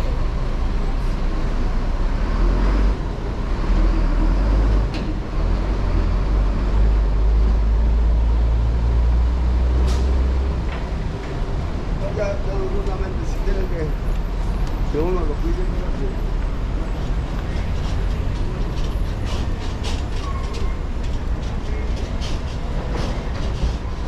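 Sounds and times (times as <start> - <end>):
heavy vehicle engine rumbling: 0.0 - 24.0.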